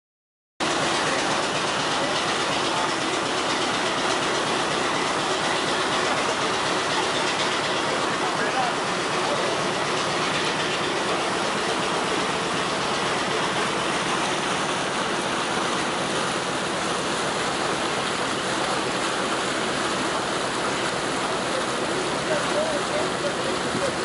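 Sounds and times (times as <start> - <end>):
propeller wash rushing: 0.6 - 24.0.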